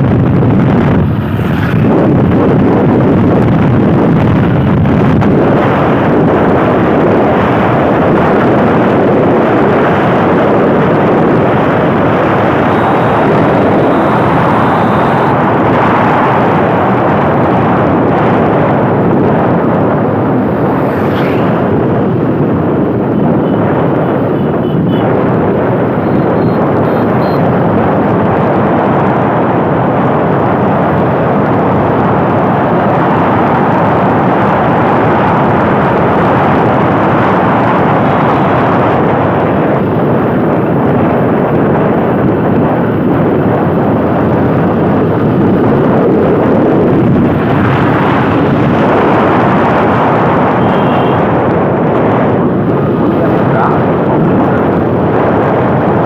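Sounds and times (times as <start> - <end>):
motorbike engine and road noise: 0.0 - 56.0
wind buffeting microphone: 0.0 - 56.0.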